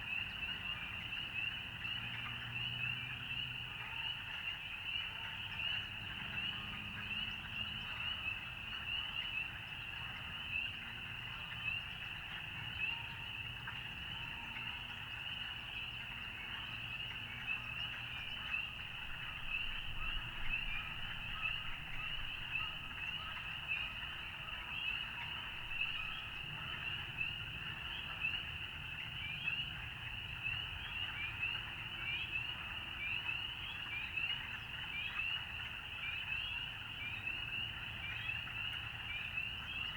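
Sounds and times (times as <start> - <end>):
frog chorus peeping: 0.0 - 39.9
softer low frog calls: 0.0 - 39.9.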